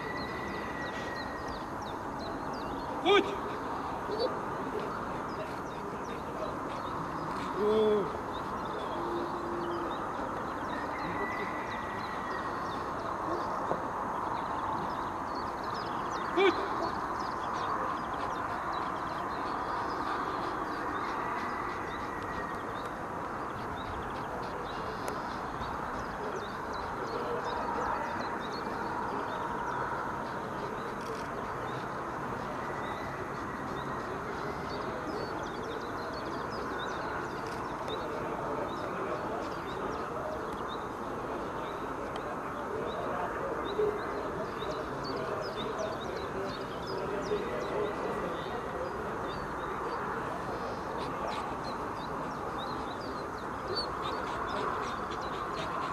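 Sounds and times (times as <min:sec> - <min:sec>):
outdoor background noise: 0:00.0 - 0:55.9.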